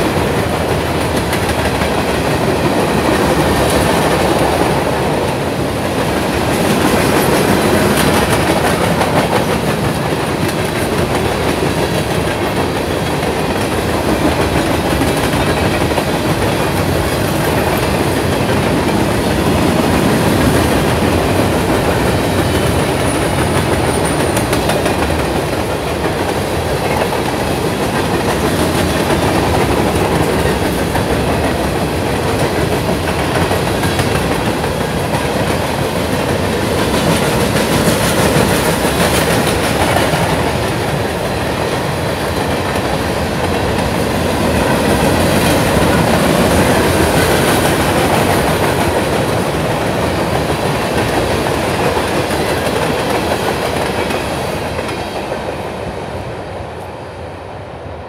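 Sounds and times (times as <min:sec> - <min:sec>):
wheels clicking over rail joints: 0:00.0 - 0:55.2
steel wheels rumbling on rail: 0:00.0 - 0:58.0.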